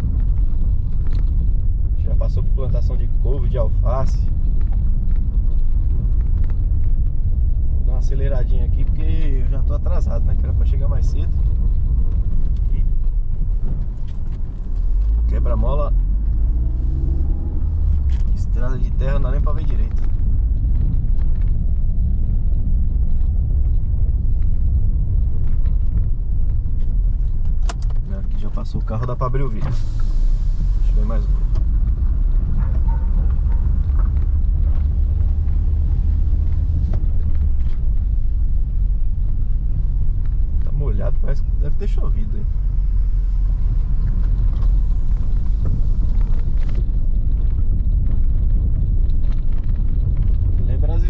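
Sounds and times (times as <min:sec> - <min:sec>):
tyre and engine rumble: 0:00.0 - 0:51.0.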